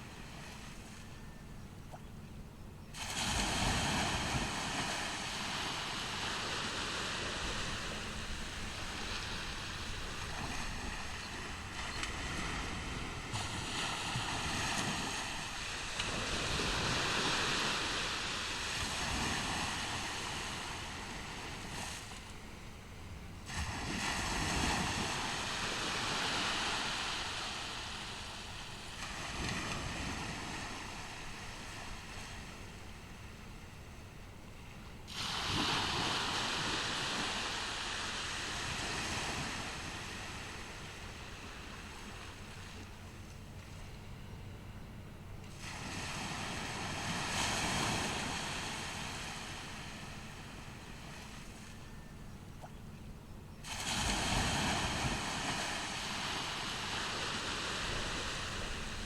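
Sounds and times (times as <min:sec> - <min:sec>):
ocean waves breaking on beach: 0:00.0 - 0:02.2, 0:02.9 - 0:59.0.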